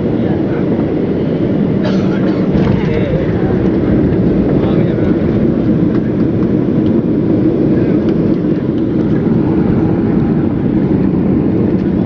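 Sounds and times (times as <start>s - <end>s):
jet cabin engine rumble: 0.0s - 12.0s.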